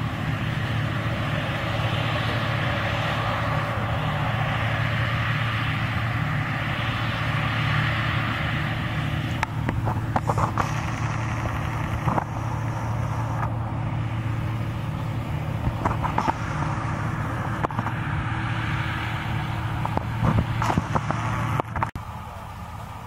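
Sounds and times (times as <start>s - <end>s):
combine harvester engine drone: 0.0s - 23.0s
threshing machinery hiss: 0.3s - 21.6s.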